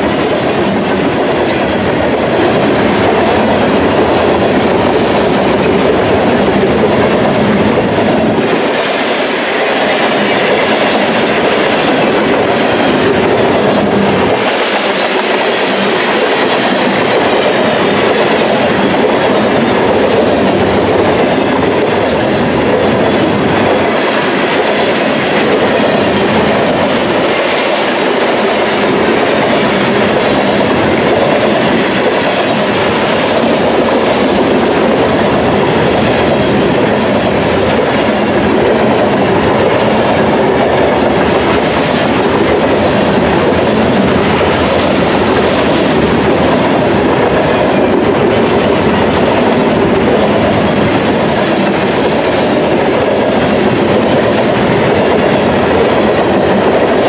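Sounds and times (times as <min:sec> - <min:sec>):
freight train rolling on track: 0:00.0 - 0:57.0.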